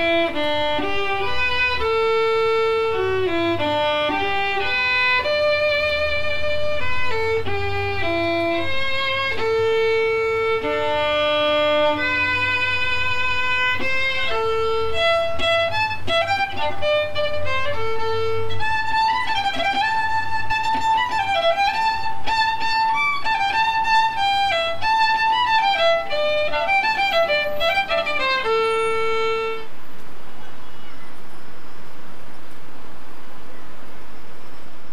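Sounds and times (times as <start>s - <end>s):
solo violin melody: 0.0s - 29.8s.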